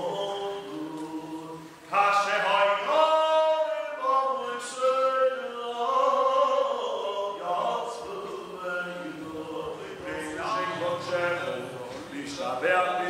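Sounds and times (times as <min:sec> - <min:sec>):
man chanting a prayer: 0:01.9 - 0:13.0.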